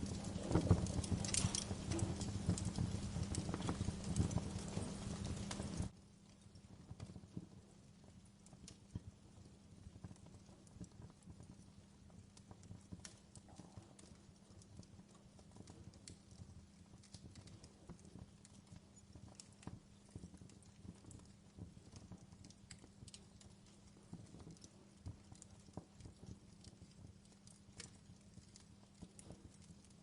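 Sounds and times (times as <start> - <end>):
fire pops and snaps: 0.0 - 30.0
log fire crackling: 0.0 - 30.0.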